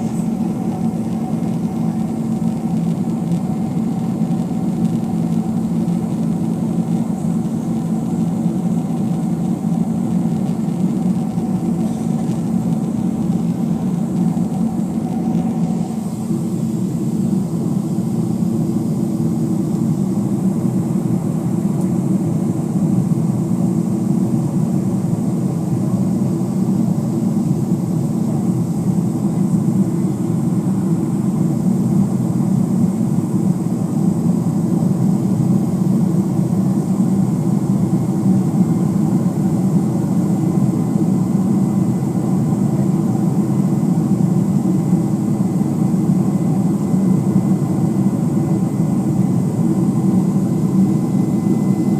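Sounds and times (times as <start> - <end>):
jet airliner cabin rumble: 0.0 - 51.9.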